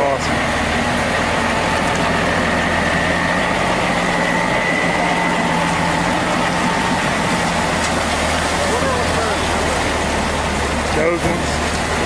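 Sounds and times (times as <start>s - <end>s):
diesel truck engine running: 0.0s - 12.0s
high whine: 0.0s - 12.0s.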